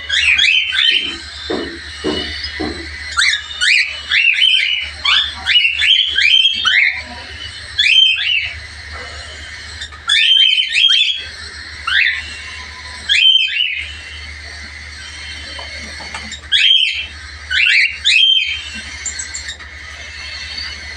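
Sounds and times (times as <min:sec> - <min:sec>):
cockatiels whistled chirps: 0:00.0 - 0:08.6, 0:09.4 - 0:20.9.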